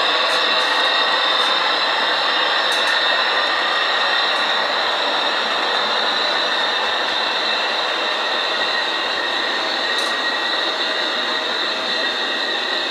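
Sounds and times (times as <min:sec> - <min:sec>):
high whine: 0:00.0 - 0:12.9
model train motor whirring: 0:00.0 - 0:12.9.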